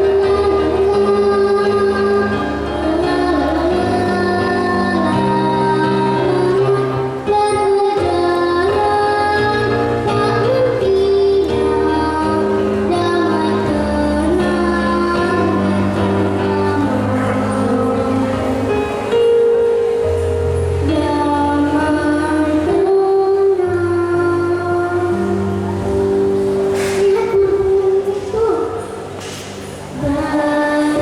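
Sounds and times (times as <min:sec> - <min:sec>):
girl singing: 0:00.0 - 0:29.2, 0:29.9 - 0:31.0
chords and bass accompaniment: 0:00.0 - 0:31.0.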